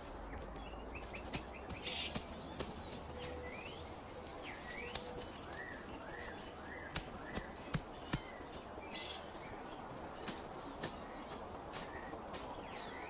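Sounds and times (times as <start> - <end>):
birds calling: 0.2 - 13.0.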